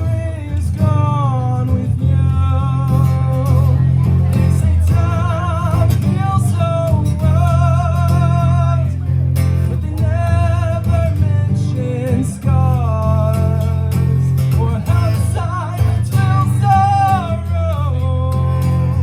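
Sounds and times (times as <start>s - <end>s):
bass: 0.0s - 19.0s
guitar: 0.0s - 19.0s.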